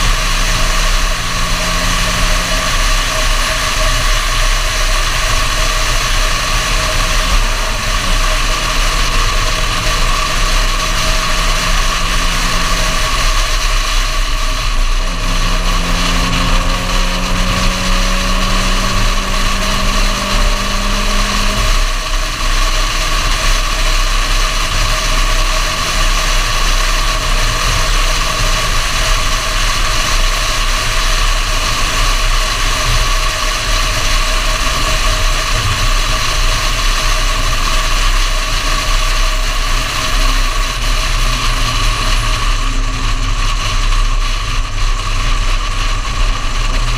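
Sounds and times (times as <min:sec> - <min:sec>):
car engine running: 0:00.0 - 0:46.9
wind and road noise: 0:00.0 - 0:46.9.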